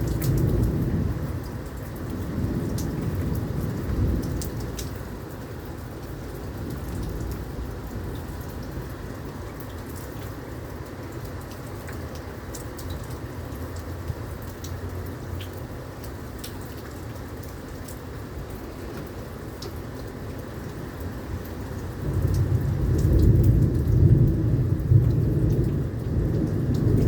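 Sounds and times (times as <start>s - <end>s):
close raindrop ticks: 0.0s - 27.0s
heavy rain pouring: 0.0s - 27.0s.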